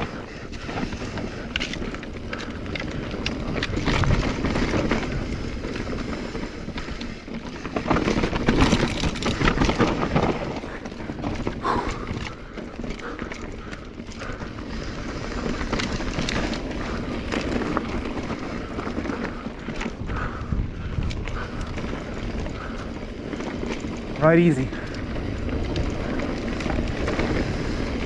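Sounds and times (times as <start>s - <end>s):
bike frame rattling: 0.0s - 28.0s
bike tyres crunching on dirt: 0.0s - 28.0s.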